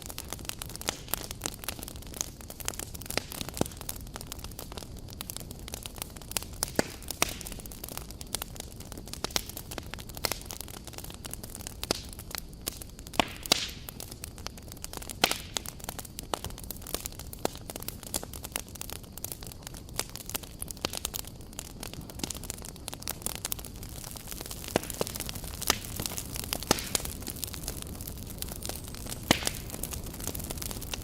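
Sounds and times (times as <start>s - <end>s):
campfire crackling and popping: 0.0s - 31.0s
low rush of flame: 0.0s - 31.0s.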